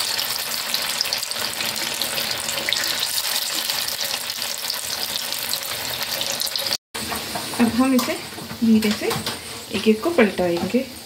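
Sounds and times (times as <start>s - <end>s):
patties sizzling in oil: 0.0s - 11.0s.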